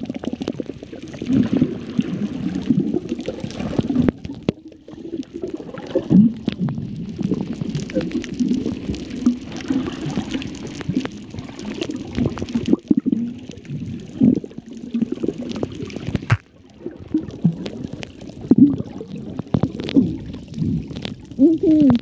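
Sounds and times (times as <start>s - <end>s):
underwater gurgling and bubbling: 0.0s - 22.0s.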